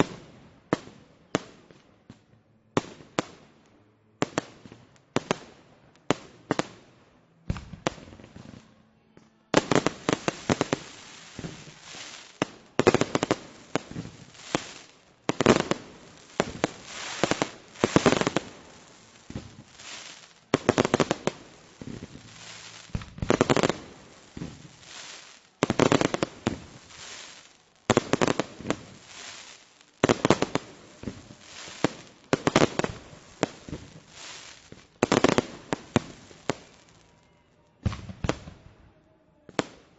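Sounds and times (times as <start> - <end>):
fireworks exploding: 0.0 - 2.2, 4.2 - 6.9, 7.5 - 8.8, 9.5 - 37.1, 37.8 - 38.8.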